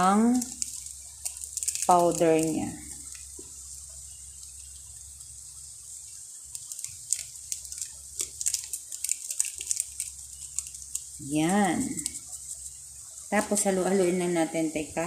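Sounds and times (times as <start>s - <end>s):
crackling with small pops: 0.0s - 13.6s
noodles sizzling in a pan: 0.0s - 15.0s.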